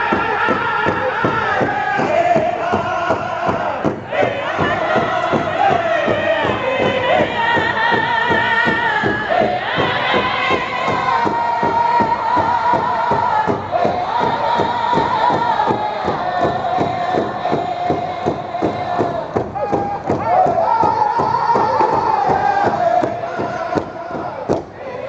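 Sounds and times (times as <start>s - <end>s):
large hide drum beats: 0.0s - 25.0s
men singing high-pitched chant: 0.0s - 25.0s.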